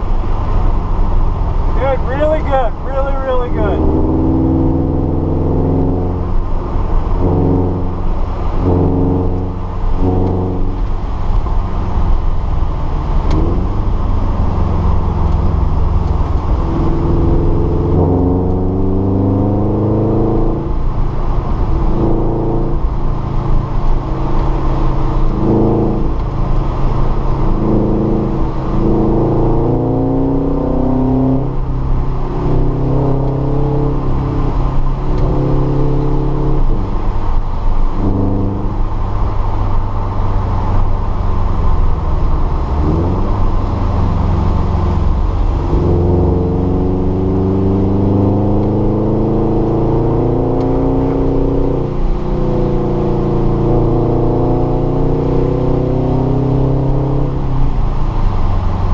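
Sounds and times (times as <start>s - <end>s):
car engine revving: 0.0s - 58.9s
road and tyre rumble: 0.0s - 58.9s.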